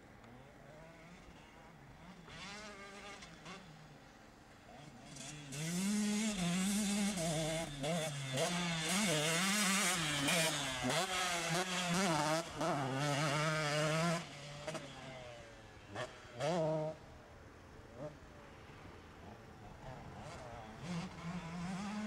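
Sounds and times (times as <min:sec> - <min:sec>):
dirt bike engine revving: 0:00.3 - 0:04.0, 0:04.7 - 0:17.1, 0:19.2 - 0:22.0.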